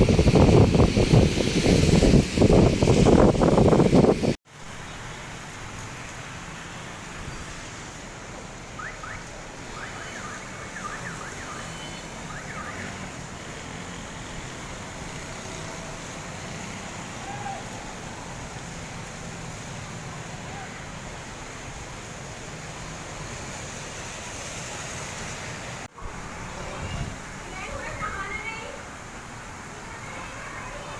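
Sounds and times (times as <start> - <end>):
rain: 0.0 - 30.9
wind: 0.0 - 30.9.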